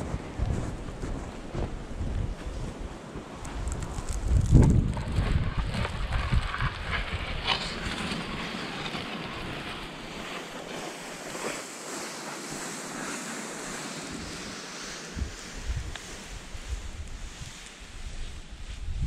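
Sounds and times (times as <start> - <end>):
wind buffeting microphone: 0.0 - 11.2, 12.5 - 19.0
blizzard wind rushing: 0.0 - 19.0.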